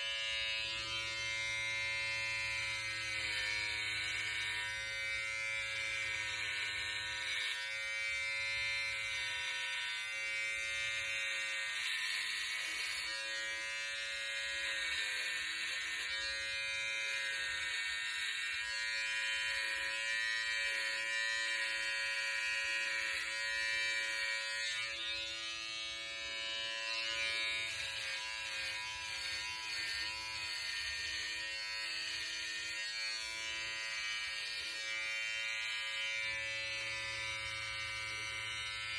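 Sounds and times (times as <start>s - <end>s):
electric hair clippers buzzing: 0.0s - 38.9s.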